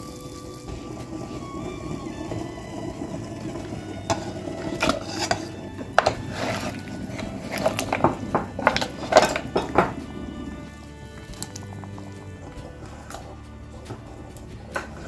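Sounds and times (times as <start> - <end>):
background music: 0.0 - 15.0
dishes and utensils clinking: 0.0 - 15.0.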